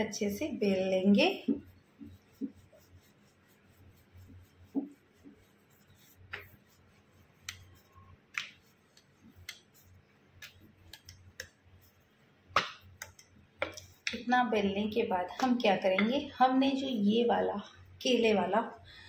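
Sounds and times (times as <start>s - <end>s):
rolling pin rubbing dough: 0.0s - 16.9s.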